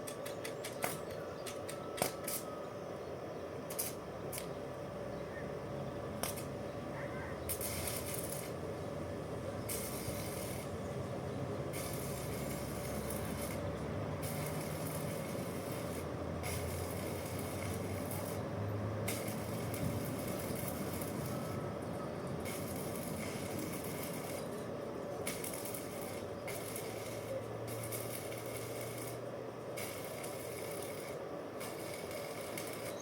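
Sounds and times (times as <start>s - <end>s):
steady low hum: 0.0s - 33.0s
hissing bursts: 6.2s - 33.0s.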